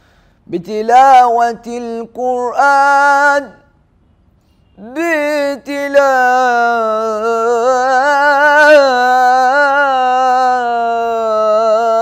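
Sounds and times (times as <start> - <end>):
person singing unaccompanied: 0.5 - 3.6, 4.8 - 12.0.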